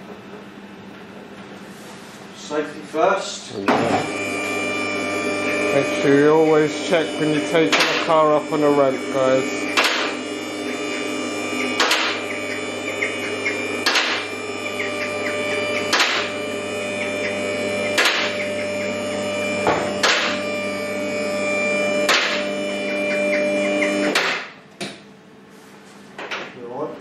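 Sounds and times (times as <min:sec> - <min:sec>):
hydraulic pump motor humming: 0:03.4 - 0:25.2.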